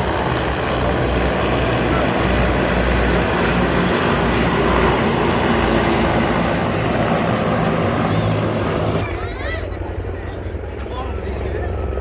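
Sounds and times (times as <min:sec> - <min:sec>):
military aircraft flying overhead: 0:00.0 - 0:12.0.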